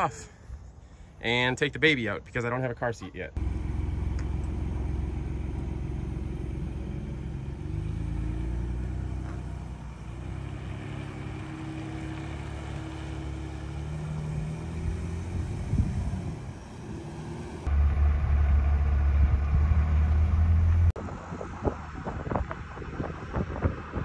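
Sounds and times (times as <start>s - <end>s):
car engine pulling away: 3.4s - 24.0s.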